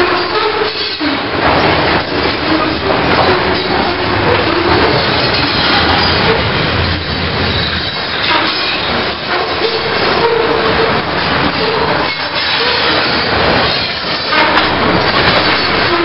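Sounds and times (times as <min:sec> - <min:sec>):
steel wheels running on rails: 0:00.0 - 0:16.0
wheel squeals: 0:00.0 - 0:16.0.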